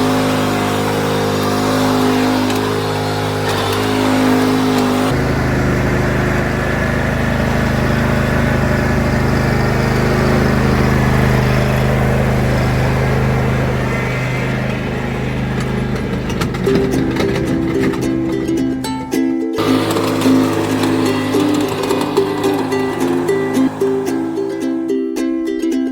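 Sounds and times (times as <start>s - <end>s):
engine running steadily: 0.0s - 24.9s.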